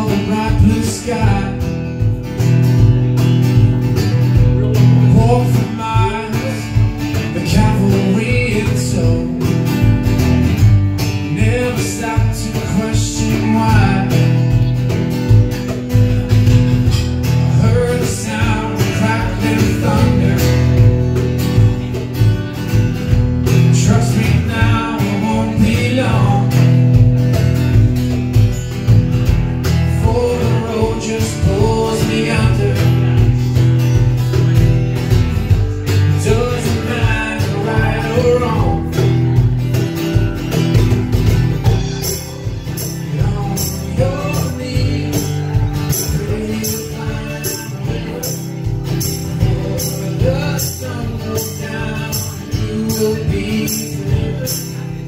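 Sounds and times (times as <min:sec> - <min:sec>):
man singing: 0:00.0 - 0:02.8, 0:04.1 - 0:27.7, 0:29.2 - 0:55.0
drums: 0:00.0 - 0:55.0
strummed acoustic guitar: 0:00.0 - 0:55.0.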